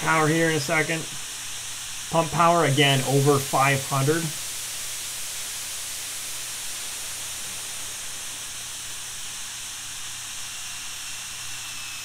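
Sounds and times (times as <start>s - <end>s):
model turbine engine running: 0.0s - 12.0s.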